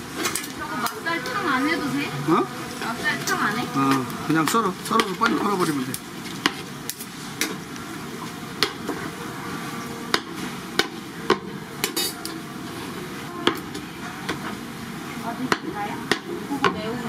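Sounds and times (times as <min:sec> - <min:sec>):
frying hiss: 0:00.0 - 0:17.0.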